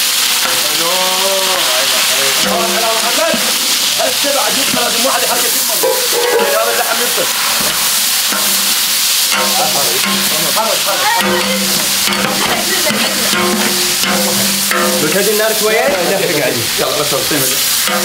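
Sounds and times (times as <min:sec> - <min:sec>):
meat and onion sizzling in oil: 0:00.0 - 0:18.0.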